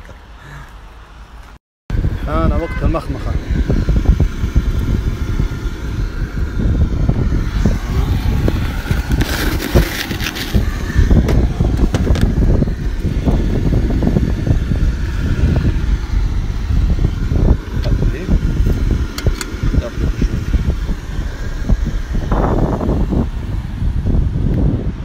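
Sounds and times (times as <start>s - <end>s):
wind buffeting microphone: 1.9s - 25.0s.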